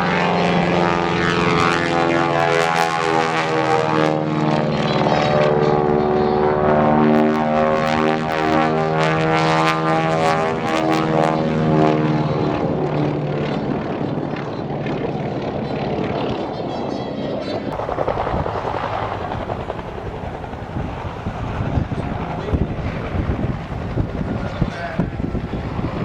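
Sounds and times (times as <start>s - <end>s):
propeller airplane engine drone: 0.0s - 26.0s.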